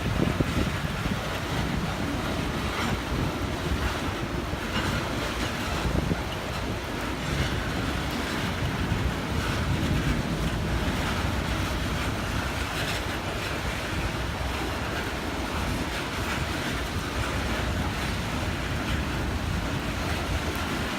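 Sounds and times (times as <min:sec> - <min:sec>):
storm wind buffeting microphone: 0:00.0 - 0:20.9.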